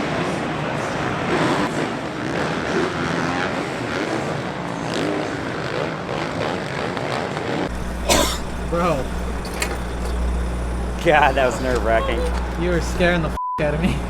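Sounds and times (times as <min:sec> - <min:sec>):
dirt bike engines revving: 0:00.7 - 0:13.4.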